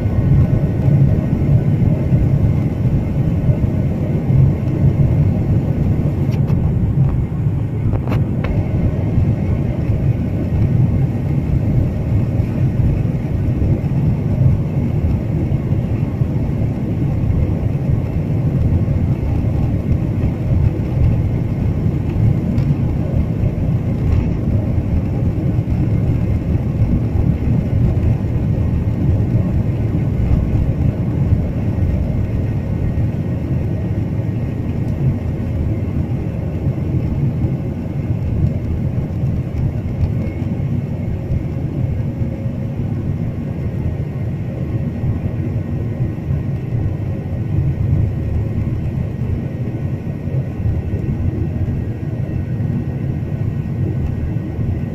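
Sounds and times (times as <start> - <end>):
airliner engine rumble in cabin: 0.0 - 54.9.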